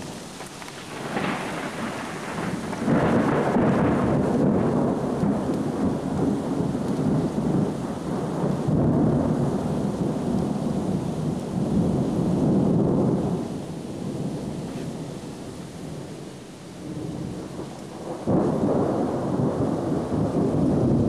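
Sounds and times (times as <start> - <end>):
steady rain: 0.0 - 21.0
thunder rumbling: 0.0 - 21.0.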